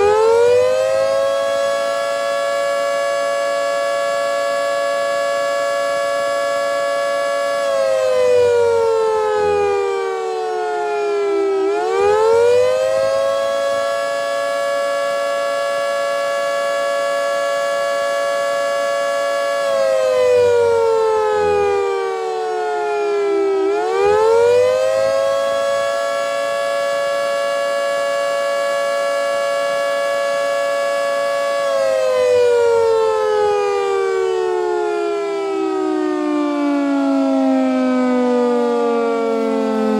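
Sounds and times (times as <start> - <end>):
tornado siren two-note chord: 0.0 - 39.9.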